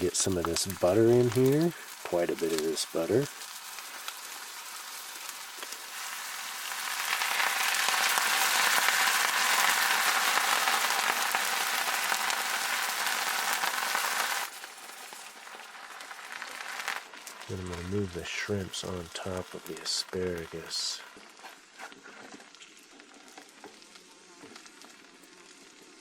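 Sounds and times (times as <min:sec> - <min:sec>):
butter sizzling in a pan: 0:00.0 - 0:26.0.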